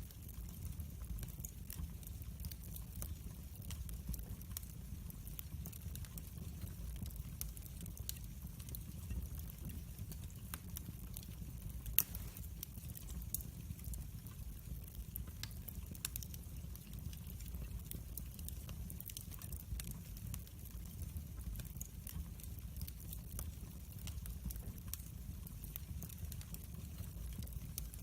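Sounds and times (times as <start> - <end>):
fire crackling pops and snaps: 0.0 - 28.0
fire flames rumbling: 0.0 - 28.0.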